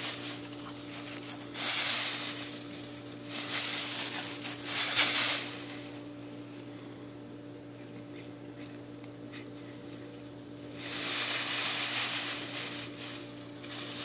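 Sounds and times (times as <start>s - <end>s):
dry straw rustling and crackling: 0.0s - 7.0s, 7.7s - 14.0s.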